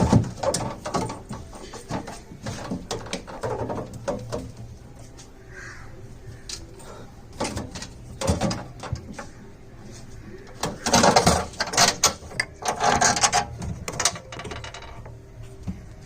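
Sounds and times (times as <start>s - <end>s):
metal panels clattering and scraping: 0.0s - 5.2s, 7.3s - 15.2s.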